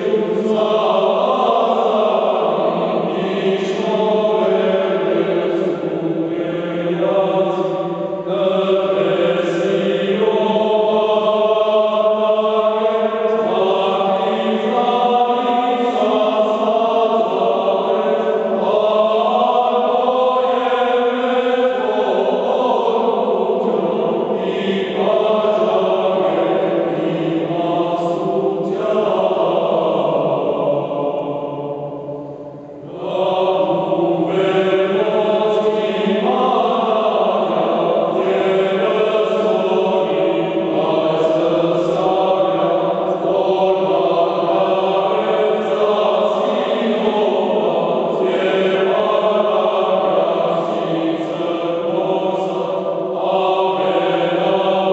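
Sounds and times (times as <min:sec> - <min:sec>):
male choir singing a hymn: 0:00.0 - 0:54.9.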